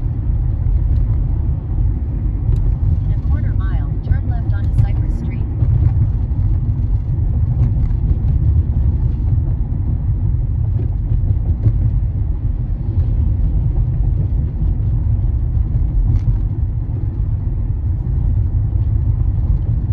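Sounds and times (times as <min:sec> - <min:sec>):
car driving low rumble: 0:00.0 - 0:19.9.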